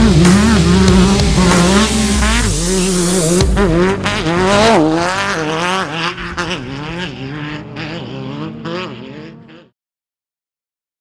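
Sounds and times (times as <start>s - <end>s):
engine revving: 0.0s - 9.8s.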